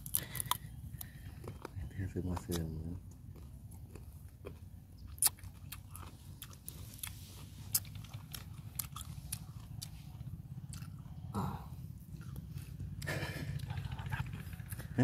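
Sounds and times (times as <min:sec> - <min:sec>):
crunchy mango chewing: 0:00.0 - 0:15.0
low steady rumble: 0:00.0 - 0:15.0.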